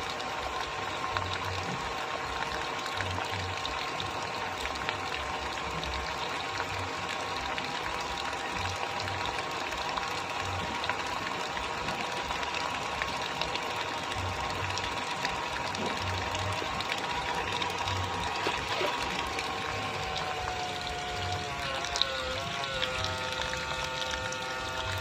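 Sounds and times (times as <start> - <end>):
small electric pump motor whining: 0.0 - 25.0
water flowing: 0.0 - 25.0.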